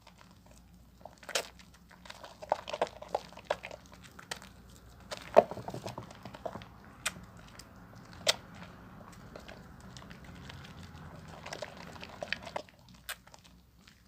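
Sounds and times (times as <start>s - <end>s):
soap foam squishing and crackling: 0.0s - 14.0s.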